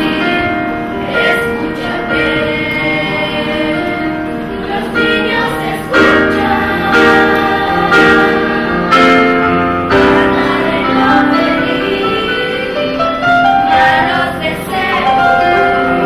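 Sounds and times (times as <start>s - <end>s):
choir singing: 0.0s - 16.0s
musical accompaniment: 0.0s - 16.0s.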